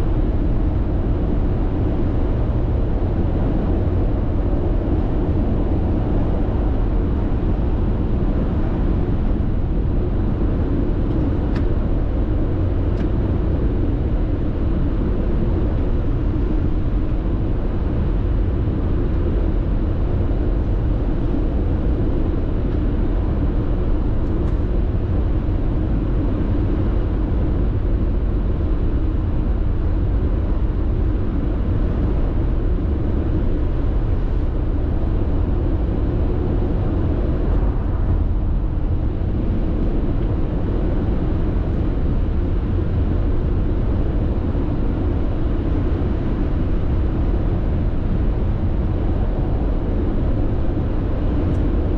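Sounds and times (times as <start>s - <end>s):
car road and tyre noise: 0.0s - 51.9s.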